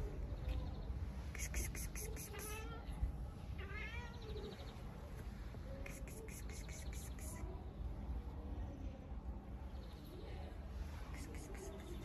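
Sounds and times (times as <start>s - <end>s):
small birds chirping: 0.0s - 3.0s, 4.0s - 12.0s
low outdoor rumble: 0.0s - 12.0s.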